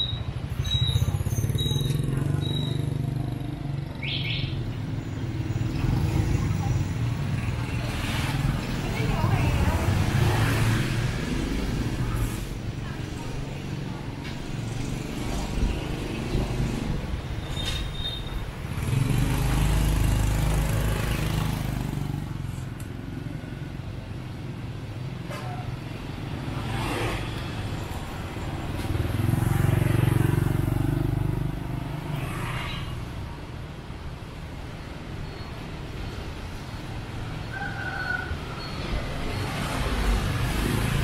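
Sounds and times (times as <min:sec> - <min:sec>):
low traffic rumble: 0:00.0 - 0:41.0.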